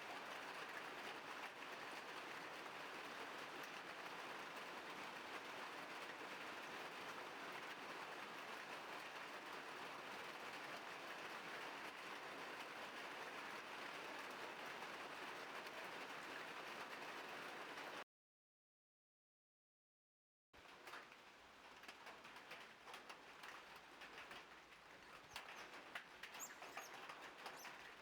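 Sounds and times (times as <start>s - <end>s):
steady rain falling: 0.0s - 18.0s, 20.6s - 28.0s.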